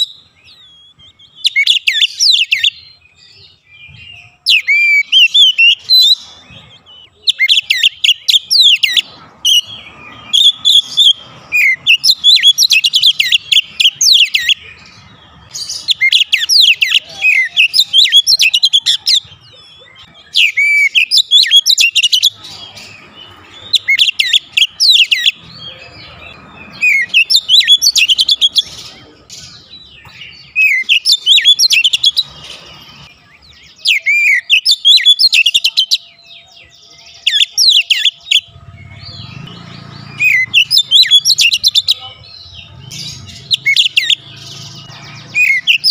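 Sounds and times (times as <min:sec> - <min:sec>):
bird singing whistles: 0:00.0 - 0:14.7, 0:15.4 - 0:22.4, 0:26.7 - 0:32.3, 0:33.1 - 0:38.5, 0:39.1 - 0:44.3, 0:45.2 - 0:45.9.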